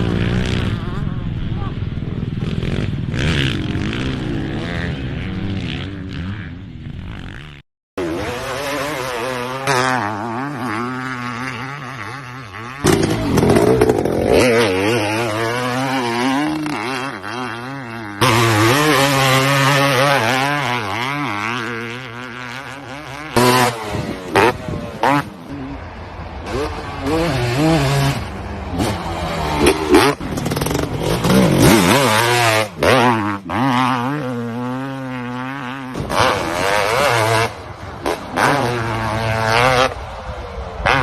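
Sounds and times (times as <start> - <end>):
motocross bike engines revving: 0.0 - 41.0.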